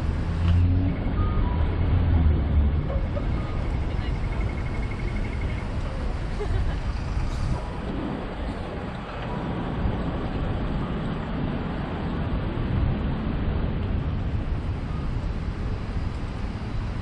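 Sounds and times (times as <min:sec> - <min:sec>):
passing cars rumbling: 0:00.0 - 0:17.0.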